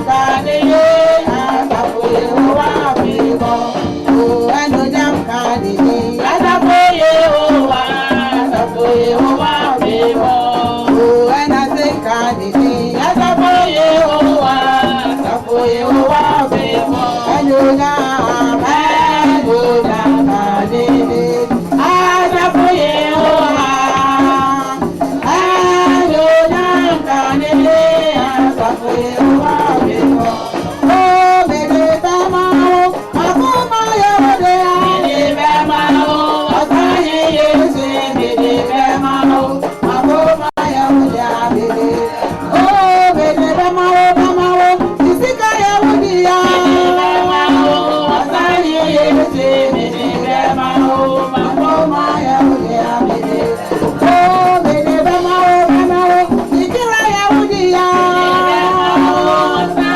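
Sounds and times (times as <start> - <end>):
church band with singing: 0.0 - 59.9
shaken percussion beat: 0.0 - 59.9.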